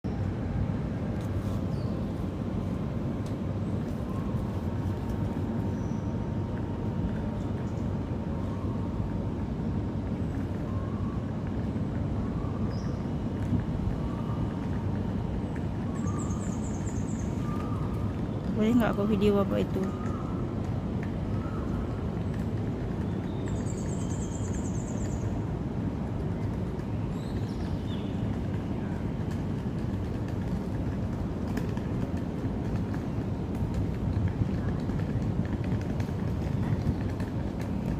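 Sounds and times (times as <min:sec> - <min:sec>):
city background rumble: 0:00.0 - 0:37.9.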